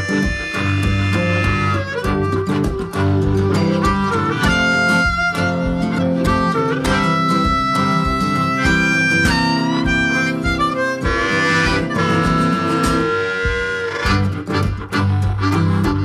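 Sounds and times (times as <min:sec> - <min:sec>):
guitar: 0:00.0 - 0:16.0
harmonica melody: 0:00.0 - 0:16.0
steady beat: 0:00.0 - 0:16.0.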